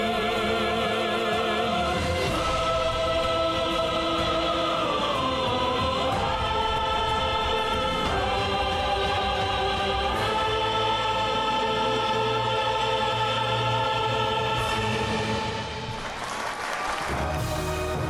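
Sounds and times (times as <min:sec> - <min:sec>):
men and women singing together: 0:00.0 - 0:15.8
backing music: 0:00.0 - 0:18.0.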